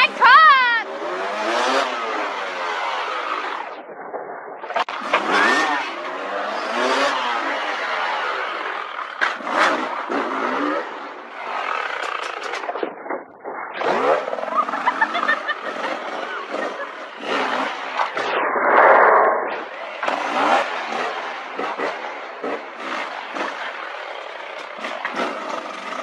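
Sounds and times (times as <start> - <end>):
motorcycle engines revving: 0.0 - 3.9, 4.6 - 12.9, 13.8 - 26.0.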